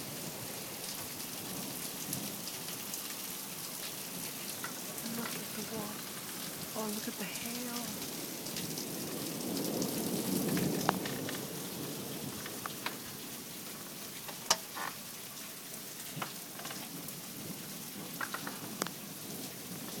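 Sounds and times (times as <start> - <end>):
hailstones ticking: 0.0 - 20.0
steady hiss of heavy rain: 0.0 - 20.0.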